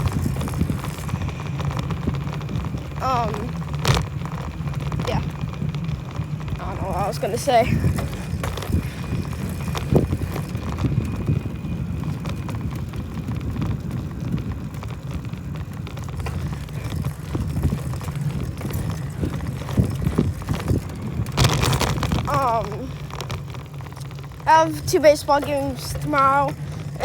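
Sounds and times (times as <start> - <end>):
bicycle knocking over ground: 0.0 - 24.5
wind rushing over microphone: 0.0 - 27.0.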